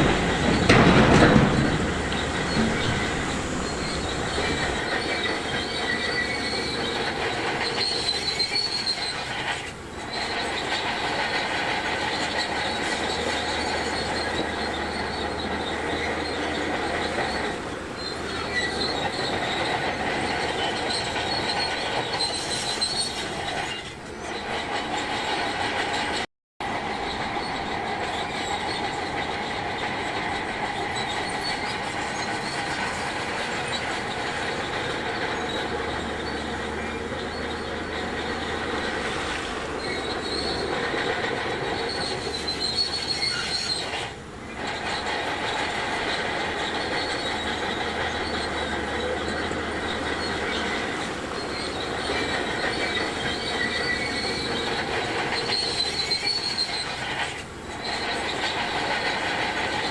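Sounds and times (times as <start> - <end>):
bulldozer engine running: 0.0 - 26.0, 26.7 - 59.9
steel tracks squealing and clanking: 0.0 - 59.9.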